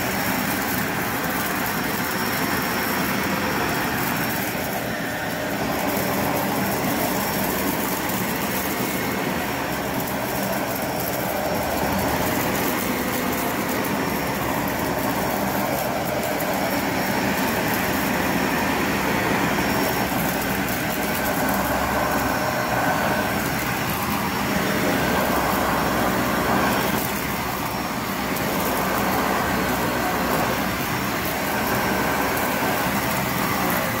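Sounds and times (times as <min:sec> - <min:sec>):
vacuum cleaner on carpet: 0:00.0 - 0:34.0.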